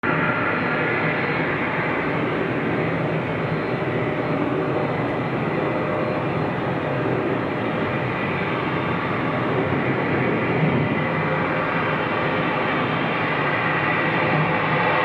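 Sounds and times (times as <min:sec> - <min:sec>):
faint high engine whine: 0:00.0 - 0:15.0
jet engines rushing: 0:00.0 - 0:15.0.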